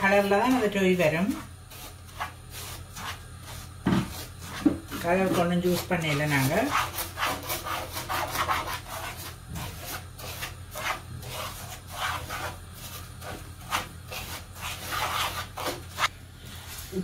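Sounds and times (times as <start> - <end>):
wooden spoon stirring dry sugar: 0.0 - 17.0.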